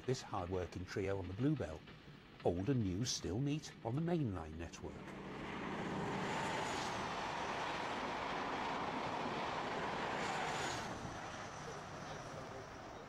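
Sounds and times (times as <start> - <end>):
trains passing at speed: 0.0 - 13.0.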